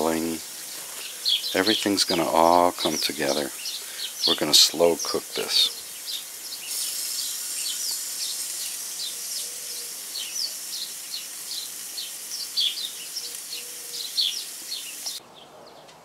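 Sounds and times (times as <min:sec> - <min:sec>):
food sizzling on a grill: 0:00.0 - 0:15.2
small birds chirping: 0:00.0 - 0:16.0.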